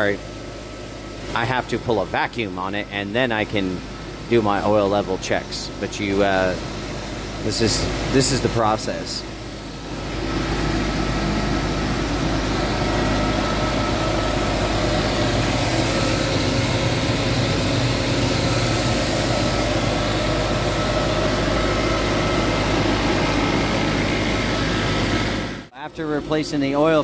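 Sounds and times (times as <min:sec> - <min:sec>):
machinery drone: 0:00.0 - 0:27.0.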